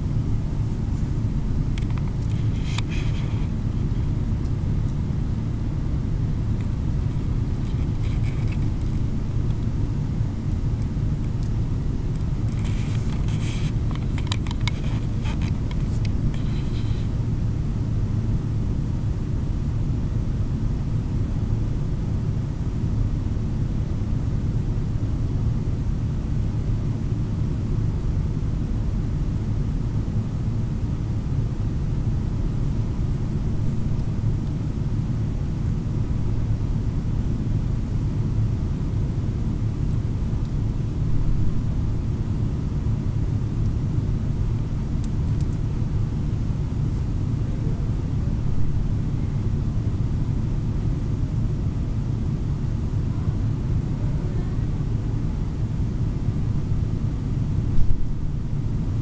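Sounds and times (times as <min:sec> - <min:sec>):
constant hum: 0:00.0 - 0:59.0
steady low rumble: 0:00.0 - 0:59.0.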